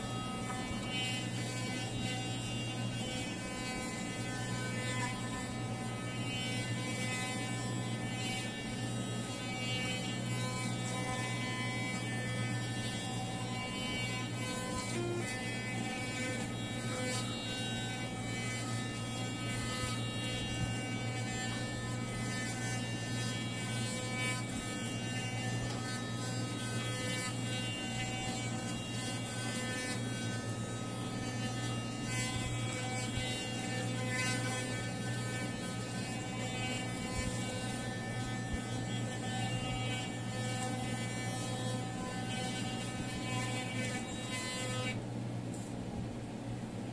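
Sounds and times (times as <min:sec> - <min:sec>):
electric toothbrush buzzing: 0:00.0 - 0:45.6.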